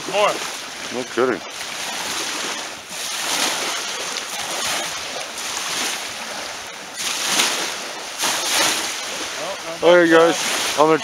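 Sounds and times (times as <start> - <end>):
small waves washing on sand: 0.0 - 11.0.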